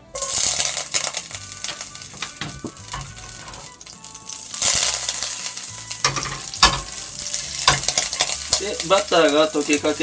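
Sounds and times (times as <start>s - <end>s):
butter sizzling in frying pan: 0.0s - 10.0s.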